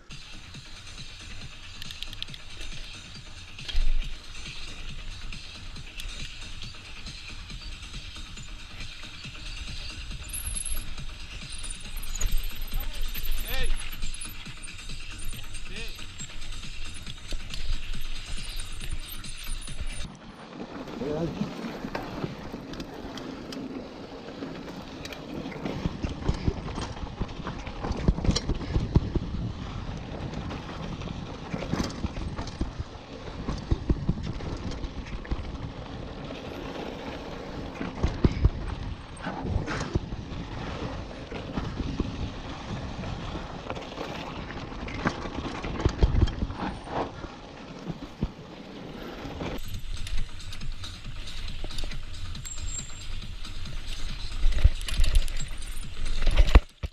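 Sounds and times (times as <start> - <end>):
bike rattling: 0.0 - 56.9
bike tyres crunching: 0.1 - 56.9.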